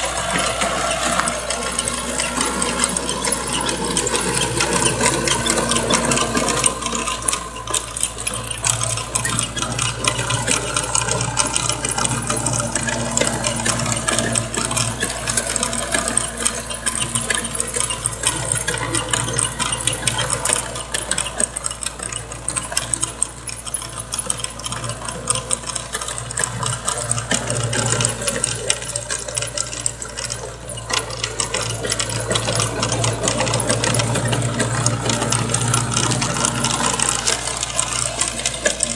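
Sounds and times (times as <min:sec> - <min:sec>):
rotary tiller rattling: 0:00.0 - 0:38.9
tractor diesel engine running: 0:00.0 - 0:38.9.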